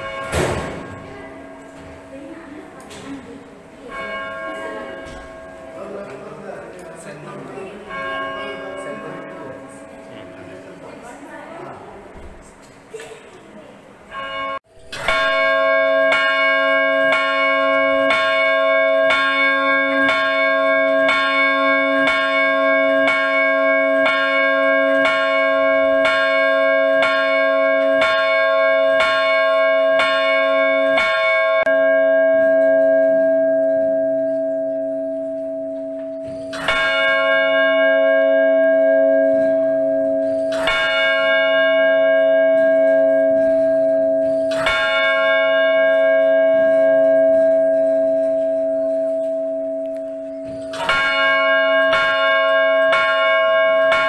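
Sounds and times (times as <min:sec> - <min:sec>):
large church bell tolling: 0:00.0 - 0:12.6, 0:14.0 - 0:54.0.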